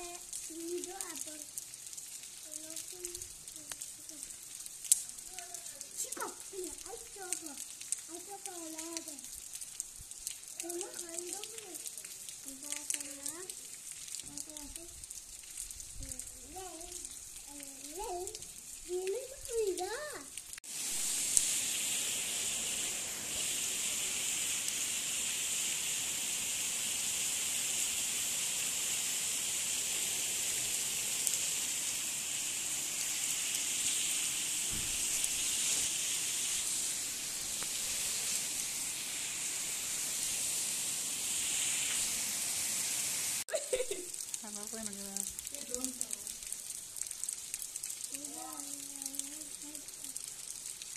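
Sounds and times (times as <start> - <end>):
rain on a paved street: 0.0 - 50.9.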